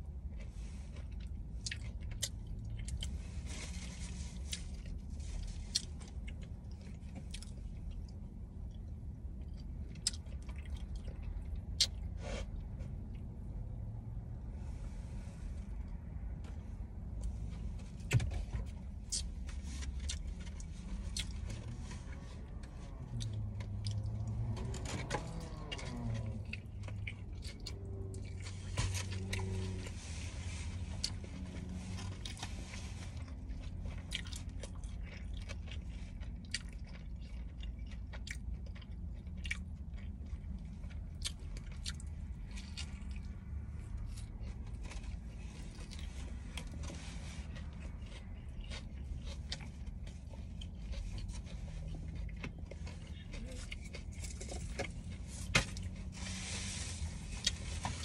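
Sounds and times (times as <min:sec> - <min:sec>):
low steady hum: 0:00.0 - 0:58.0
chewing and biting food: 0:00.1 - 0:13.3, 0:18.0 - 0:30.0, 0:30.7 - 0:56.1.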